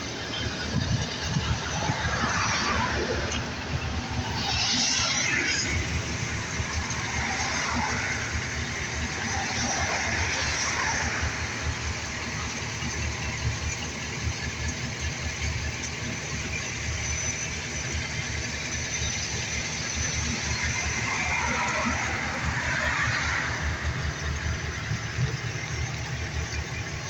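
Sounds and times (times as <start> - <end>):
engine rumbling: 0.0 - 27.0
road traffic noise: 0.0 - 27.0.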